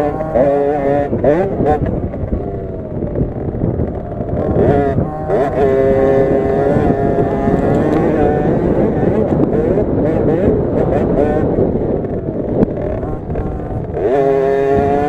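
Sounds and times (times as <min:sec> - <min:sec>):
two-stroke minibike engine revving: 0:00.0 - 0:15.0.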